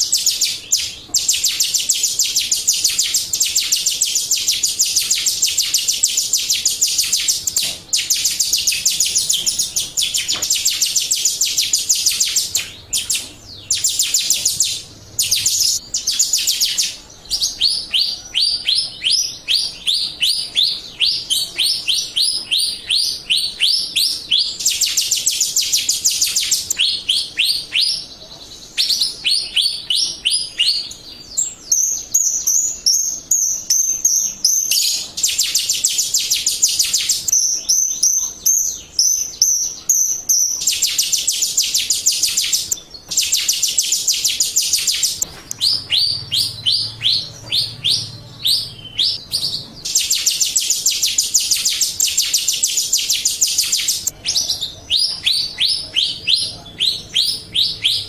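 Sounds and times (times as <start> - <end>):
high whistled bird notes: 0.0 - 28.1, 28.8 - 58.0
starling chattering chirps: 0.0 - 58.0.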